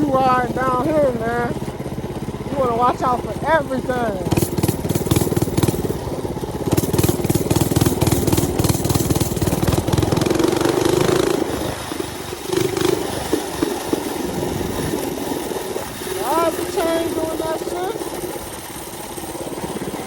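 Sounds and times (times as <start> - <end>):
mini bike engine revving: 0.0 - 20.0.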